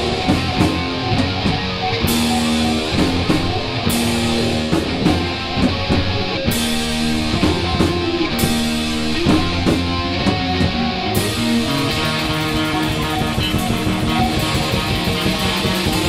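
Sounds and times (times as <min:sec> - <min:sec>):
heavy metal band playing: 0:00.0 - 0:16.0
cymbal crashes: 0:02.1 - 0:16.0.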